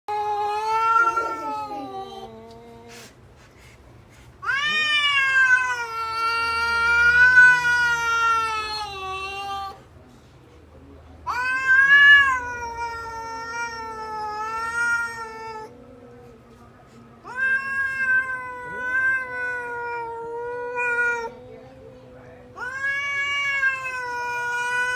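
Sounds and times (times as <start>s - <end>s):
cat yowling: 0.1s - 3.0s, 4.4s - 9.8s, 11.3s - 16.2s, 17.2s - 24.9s.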